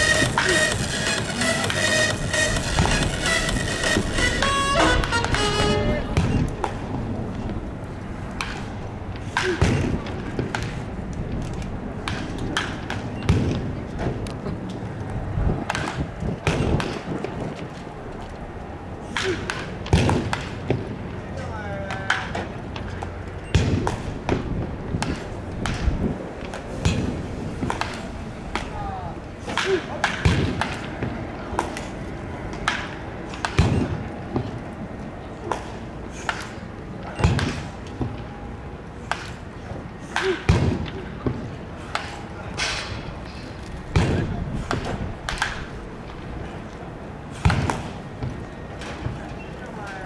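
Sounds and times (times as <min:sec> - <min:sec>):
background hubbub: 0:00.0 - 0:50.0.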